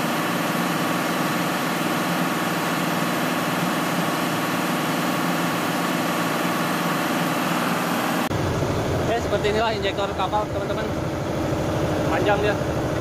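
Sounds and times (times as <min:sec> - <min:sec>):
engine-room machinery drone: 0:00.0 - 0:13.0.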